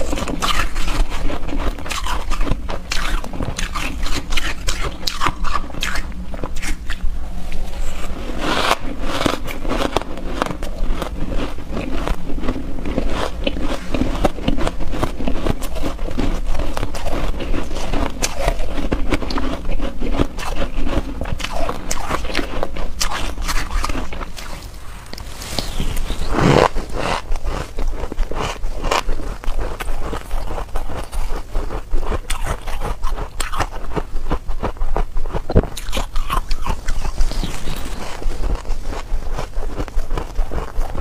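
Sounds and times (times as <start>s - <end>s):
chewing shaved ice crunches: 0.0s - 41.0s.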